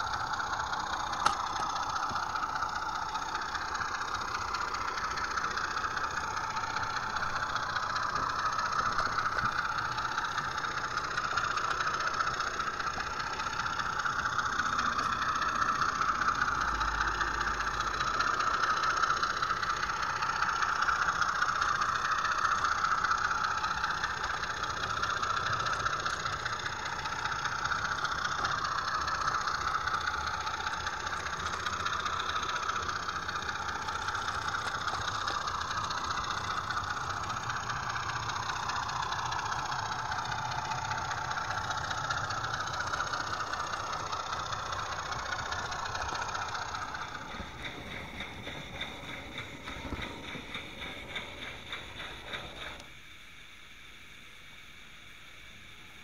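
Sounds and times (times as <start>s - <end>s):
model train motor whirring: 0.0s - 56.0s.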